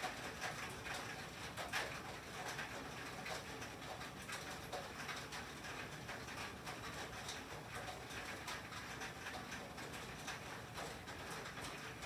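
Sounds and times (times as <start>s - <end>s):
rain and sleet on tin roof: 0.0s - 12.0s.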